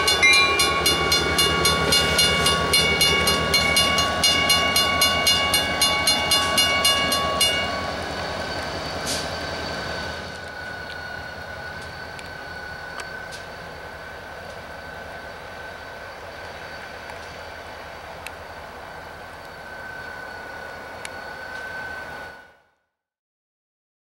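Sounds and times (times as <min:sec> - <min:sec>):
crossing warning bell ringing: 0:00.0 - 0:22.6
diesel locomotive rumble: 0:00.0 - 0:22.6.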